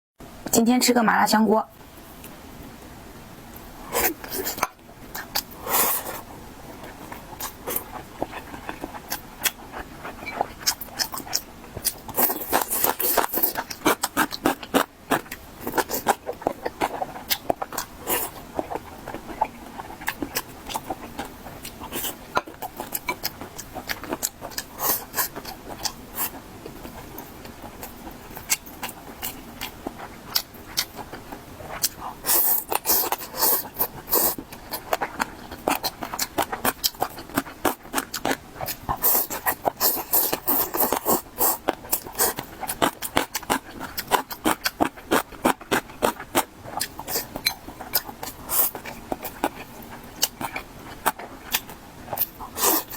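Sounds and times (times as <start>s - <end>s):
chewing and crunching food: 3.5s - 52.9s.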